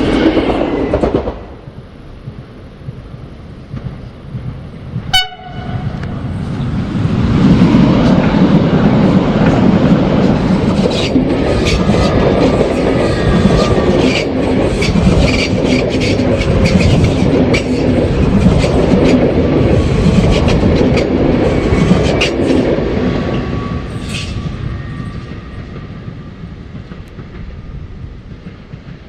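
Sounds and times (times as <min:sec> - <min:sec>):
train wheels rumbling and clicking: 0:00.0 - 0:29.0.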